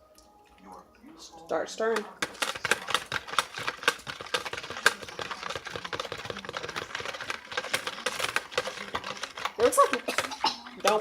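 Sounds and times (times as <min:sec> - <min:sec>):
stirrer knocking against bucket: 0:01.8 - 0:11.0.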